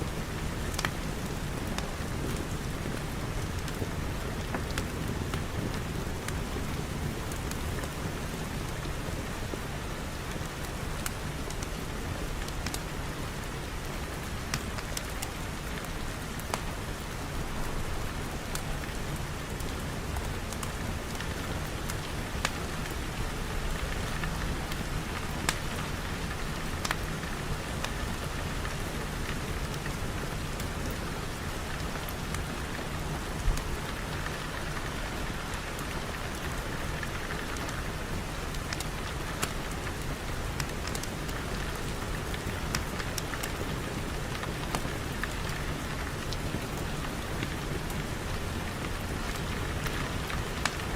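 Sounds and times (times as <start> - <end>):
steady rain falling: 0.0 - 50.9
raindrop ticks: 0.3 - 8.0, 8.6 - 50.9.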